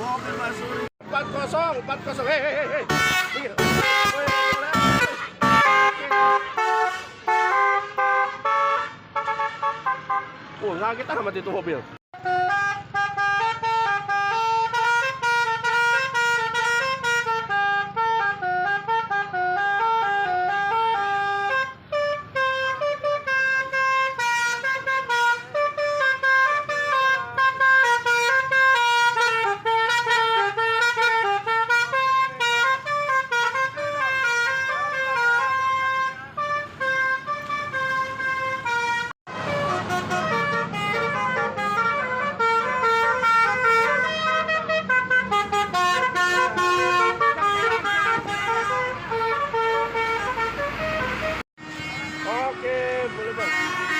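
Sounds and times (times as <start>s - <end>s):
multi-tone musical vehicle horn: 2.2s - 10.6s, 12.1s - 53.9s.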